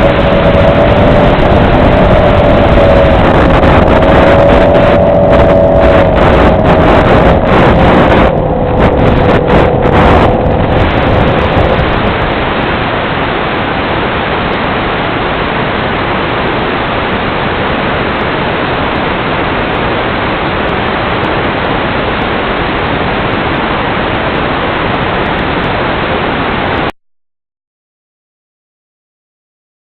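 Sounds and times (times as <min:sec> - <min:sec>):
gusty wind rushing: 0:00.0 - 0:26.9
static hiss: 0:00.0 - 0:26.9.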